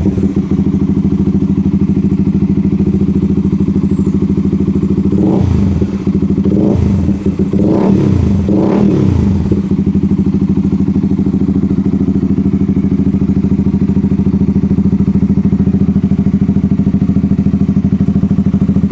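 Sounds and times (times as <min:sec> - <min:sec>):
motorcycle engine revving and idling: 0:00.0 - 0:18.9.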